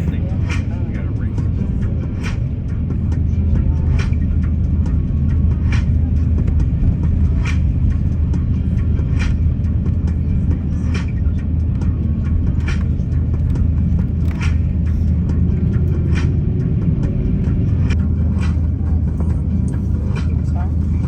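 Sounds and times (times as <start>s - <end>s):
low rumble of aircraft engines: 0.0s - 21.0s.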